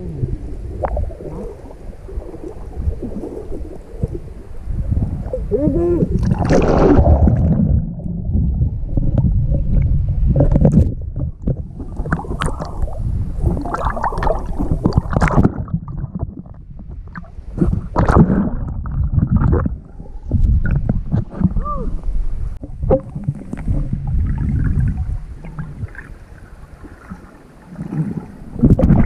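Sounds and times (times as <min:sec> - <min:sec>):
water splashing and sloshing: 0:00.0 - 0:21.6, 0:22.5 - 0:29.0
steady low rumble: 0:00.0 - 0:26.4.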